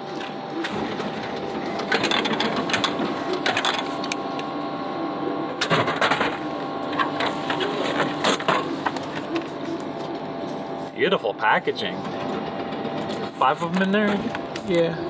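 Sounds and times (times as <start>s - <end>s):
vending machine motor whir: 0.0s - 15.0s.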